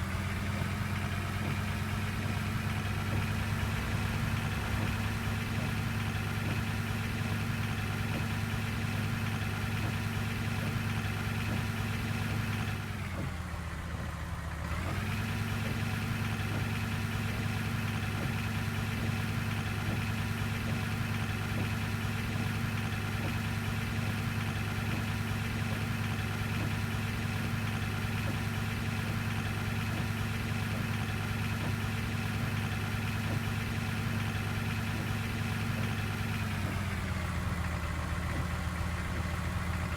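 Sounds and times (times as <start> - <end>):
bus diesel engine idling: 0.0 - 39.9.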